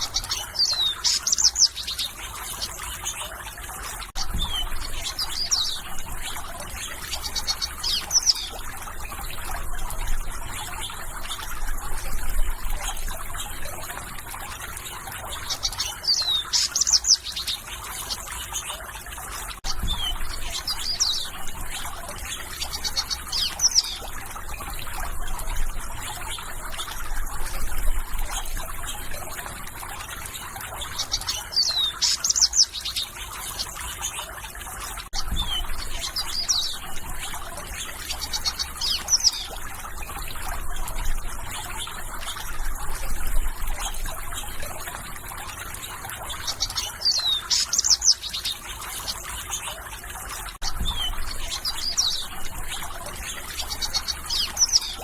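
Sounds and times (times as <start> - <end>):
birds chirping and whistling: 0.0 - 49.8, 50.6 - 55.0.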